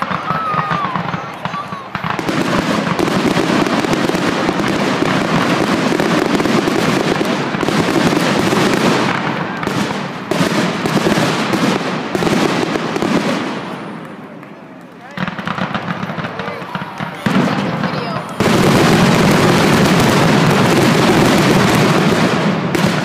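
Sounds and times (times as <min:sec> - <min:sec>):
fireworks bursting and crackling: 0:00.0 - 0:23.0.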